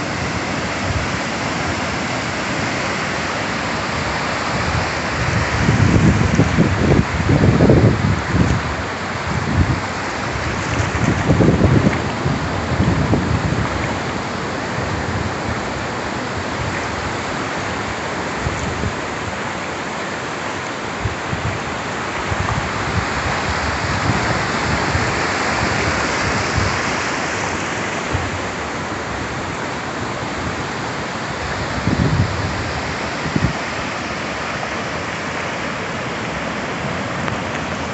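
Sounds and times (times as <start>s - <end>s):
wind buffeting microphone: 0.0s - 19.4s, 20.9s - 37.9s
waves breaking on beach: 0.0s - 37.9s.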